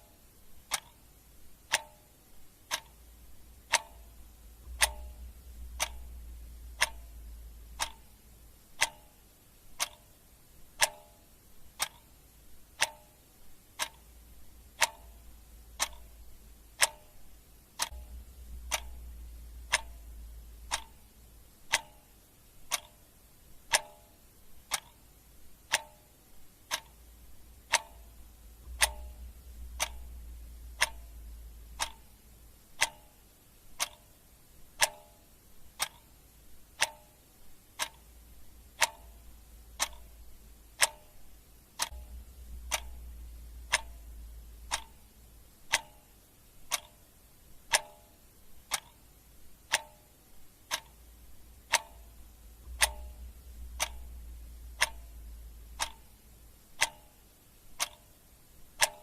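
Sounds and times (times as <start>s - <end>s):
clock ticking: 0.0s - 59.0s
faint low hum: 0.0s - 59.0s.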